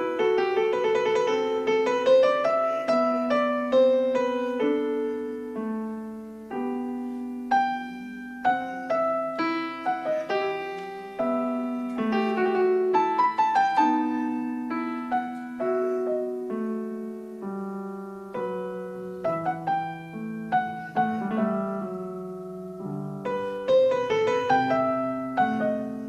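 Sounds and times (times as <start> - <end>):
gentle piano piece: 0.0 - 26.0.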